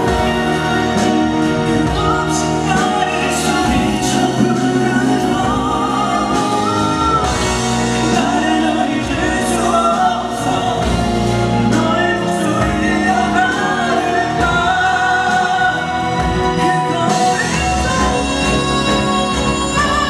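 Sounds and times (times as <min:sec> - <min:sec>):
amplified musical accompaniment: 0:00.0 - 0:20.0
male vocal group singing: 0:00.0 - 0:20.0.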